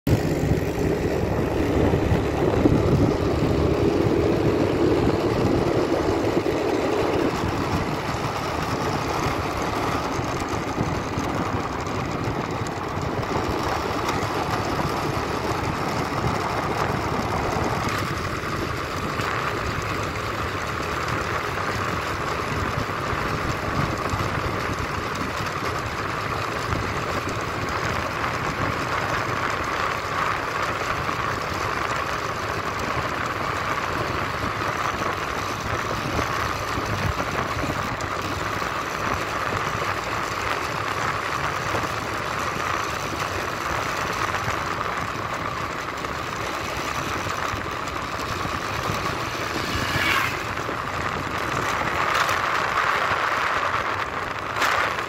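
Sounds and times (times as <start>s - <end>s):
wind: 0.0s - 55.0s
motorbike engine running: 0.1s - 55.0s
tyre noise: 0.1s - 55.0s.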